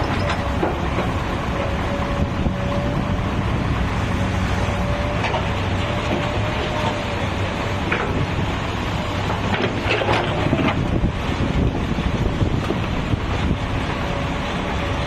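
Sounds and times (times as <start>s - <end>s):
diesel engine running with whine: 0.0s - 15.0s.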